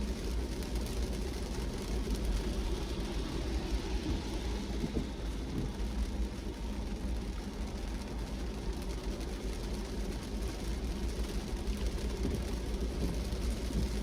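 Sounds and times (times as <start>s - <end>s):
car engine and tyres on wet road: 0.0s - 14.0s
rain hissing: 0.0s - 14.0s.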